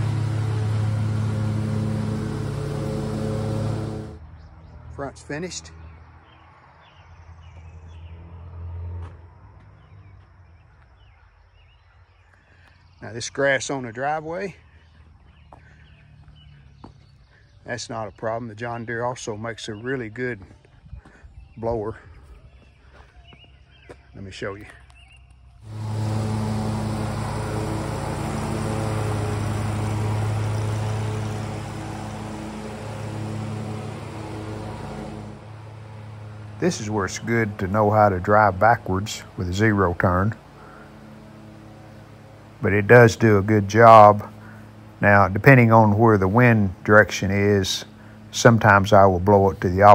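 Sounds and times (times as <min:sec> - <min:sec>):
low engine hum: 0:00.0 - 0:13.1, 0:20.0 - 0:49.9.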